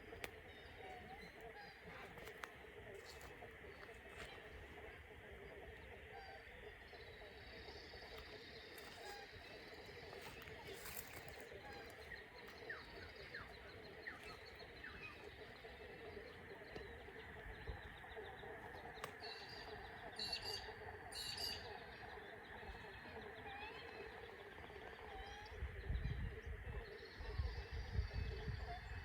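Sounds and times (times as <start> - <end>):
birds chirping and calling: 0.0 - 29.0.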